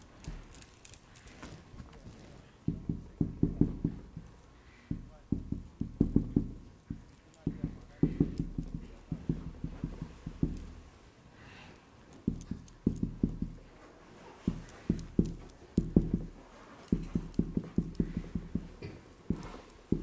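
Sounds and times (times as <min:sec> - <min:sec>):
soft dull knocks and taps: 0:00.0 - 0:11.0, 0:12.1 - 0:20.0.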